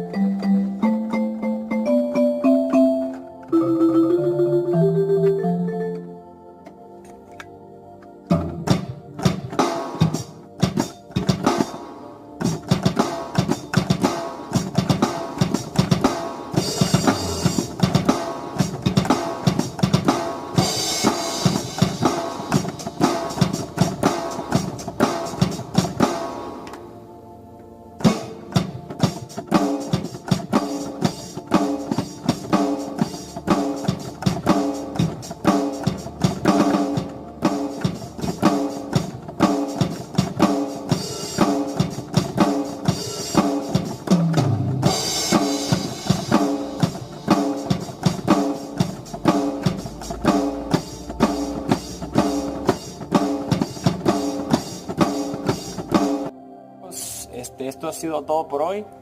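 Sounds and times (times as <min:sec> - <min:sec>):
synthesizer drum-kit groove: 0:08.2 - 0:26.9, 0:28.0 - 0:57.4.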